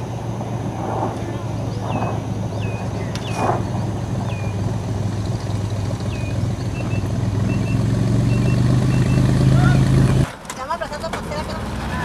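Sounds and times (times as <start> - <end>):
plane engine and propeller drone: 0.0 - 10.3.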